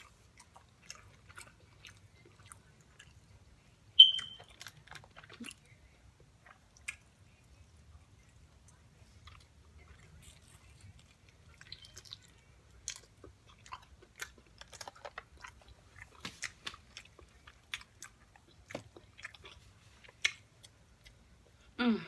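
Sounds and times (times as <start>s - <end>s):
person chewing crunchy food: 0.0s - 3.5s, 4.3s - 21.5s.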